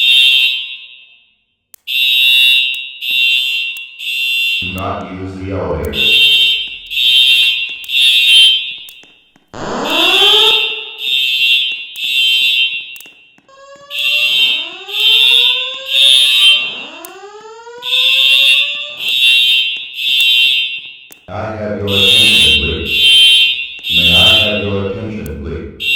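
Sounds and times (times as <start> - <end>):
fire alarm beeps: 0.0 - 9.0, 9.6 - 25.9.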